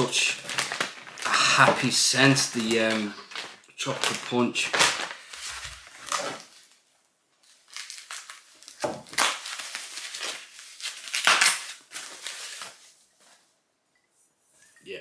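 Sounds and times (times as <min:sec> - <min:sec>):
plastic wrapping crinkling: 0:00.0 - 0:12.9.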